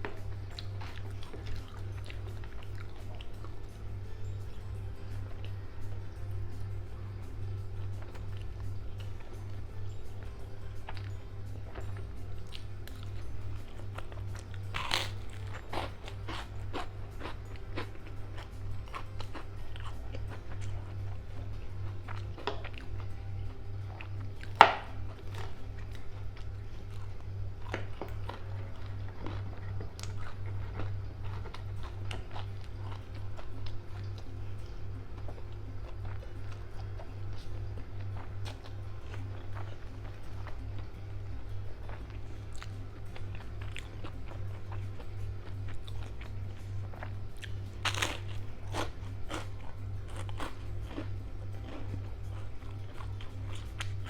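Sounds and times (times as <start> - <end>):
chewing and biting: 0.0 - 6.2, 7.7 - 54.0
low steady hum: 0.0 - 54.0.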